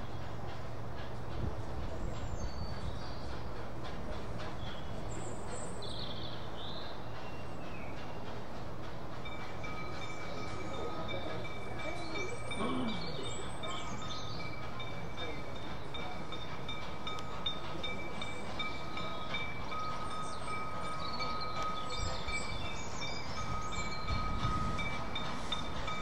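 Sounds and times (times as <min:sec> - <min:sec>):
steam locomotive rumbling: 0:00.0 - 0:26.0.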